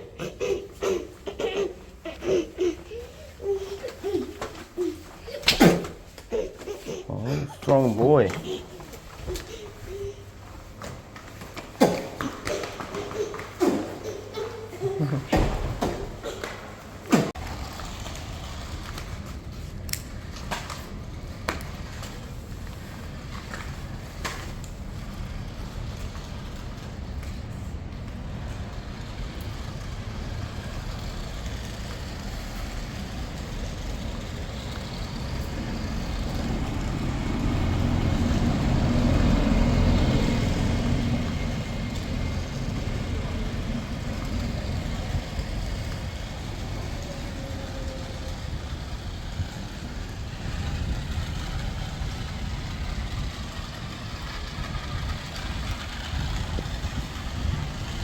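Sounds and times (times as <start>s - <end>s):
vehicle engine rumble: 8.4s - 58.0s.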